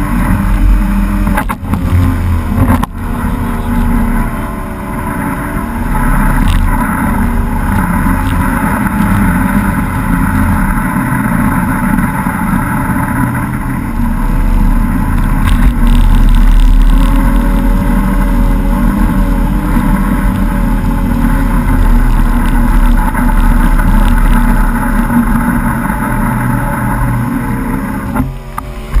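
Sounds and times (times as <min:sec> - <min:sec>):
outboard motor running: 0:00.0 - 0:29.0
water rushing from wake: 0:00.0 - 0:29.0.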